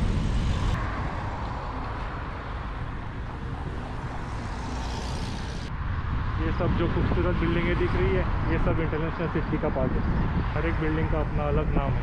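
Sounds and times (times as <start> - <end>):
passing traffic: 0.0 - 12.0
wind rushing on camera: 0.0 - 12.0.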